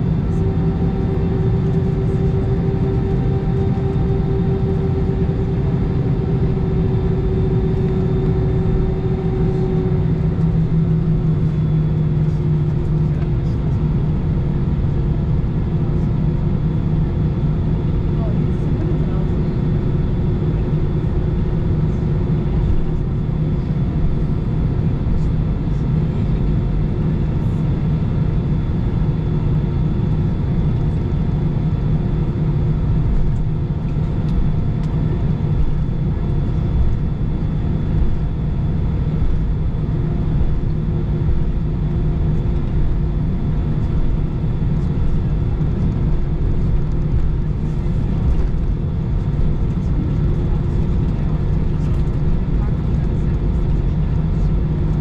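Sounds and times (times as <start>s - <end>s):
faint steady hums: 0.0s - 55.0s
jet engine cabin rumble: 0.0s - 55.0s.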